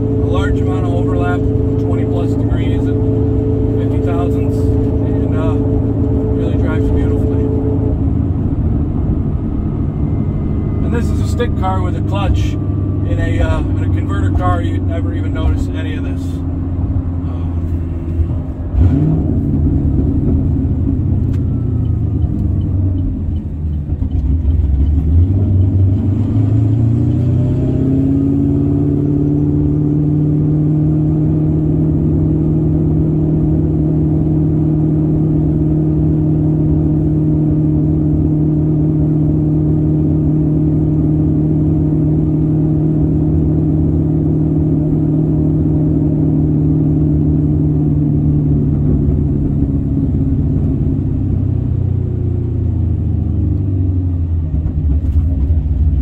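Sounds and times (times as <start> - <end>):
car engine heard inside cabin: 0.0 - 56.0.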